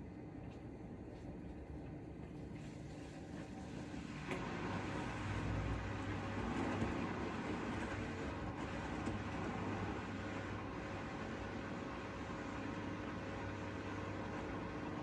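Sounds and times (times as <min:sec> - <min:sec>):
washing machine drum churning: 0:02.8 - 0:15.0.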